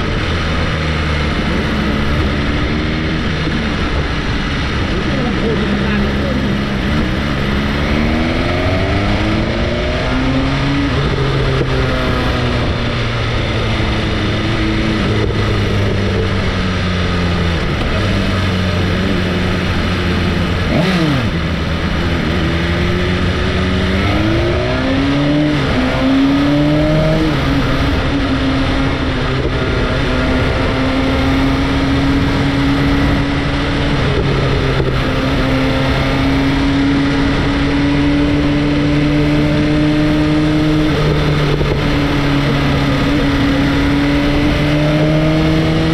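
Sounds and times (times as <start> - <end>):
motorcycle engine revving: 0.0 - 45.9
road noise rushing: 0.0 - 45.9.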